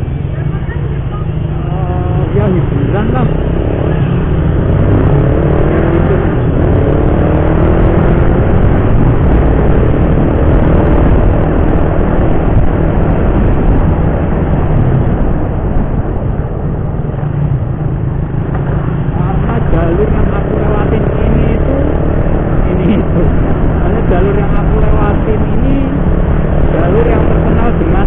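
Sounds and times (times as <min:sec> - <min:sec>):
motorcycle engine accelerating: 0:00.0 - 0:28.0
wind rumble on microphone: 0:00.0 - 0:28.0.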